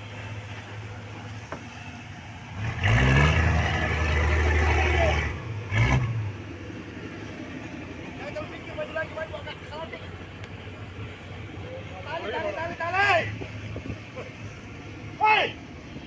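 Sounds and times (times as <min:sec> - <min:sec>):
boat engine: 0:00.0 - 0:16.0.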